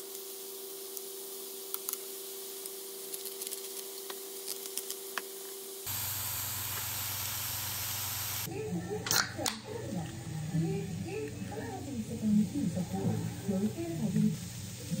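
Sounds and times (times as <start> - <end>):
even hiss: 0.0 - 8.5, 10.5 - 15.0
steady two-tone hum: 0.0 - 14.8.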